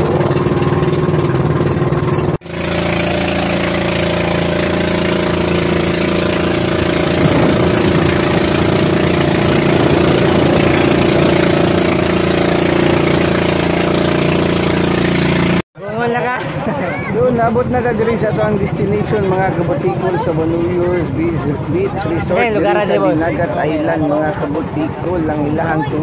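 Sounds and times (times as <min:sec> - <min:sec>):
boat engine running: 0:00.0 - 0:15.6, 0:16.4 - 0:26.0
water noise: 0:00.0 - 0:15.6, 0:16.4 - 0:26.0
wind: 0:00.0 - 0:26.0.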